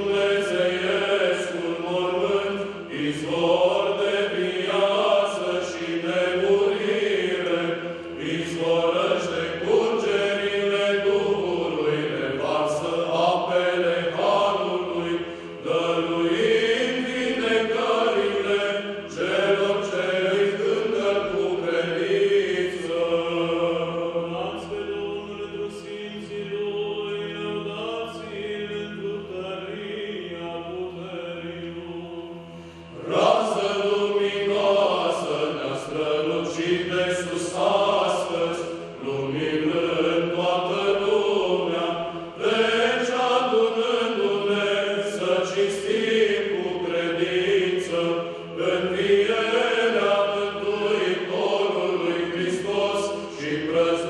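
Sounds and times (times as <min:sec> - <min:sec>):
male choir chanting: 0:00.0 - 0:54.0.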